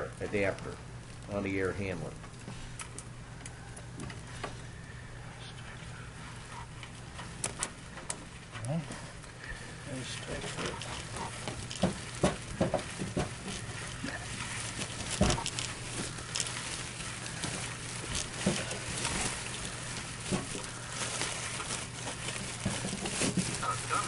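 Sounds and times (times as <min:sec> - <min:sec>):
foil duct crinkling and rustling: 0:00.0 - 0:24.0
steady low hum: 0:00.0 - 0:24.0.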